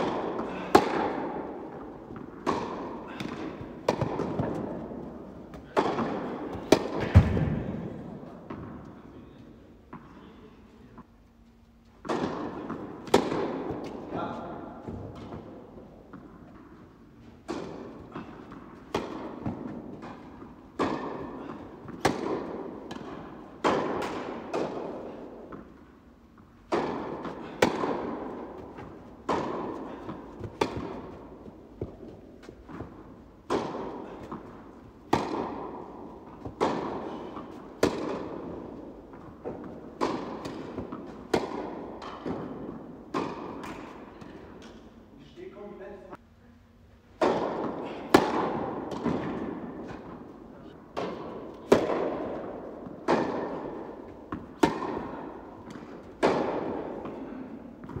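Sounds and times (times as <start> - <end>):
tennis ball bouncing on court: 0.0 - 7.7, 9.8 - 10.2, 11.8 - 14.1, 14.8 - 44.8, 47.1 - 50.3, 50.9 - 58.0
rackets striking tennis ball: 0.0 - 10.3, 10.9 - 45.7, 47.1 - 58.0.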